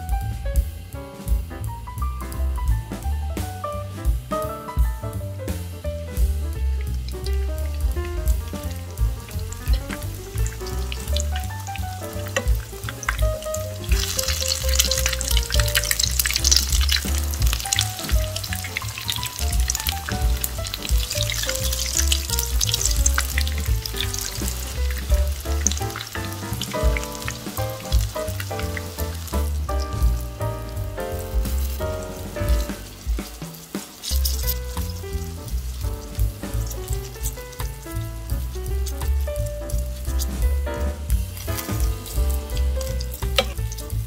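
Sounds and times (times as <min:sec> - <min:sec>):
background music with steady beat: 0:00.0 - 0:44.0
oil sizzling and crackling: 0:00.0 - 0:44.0.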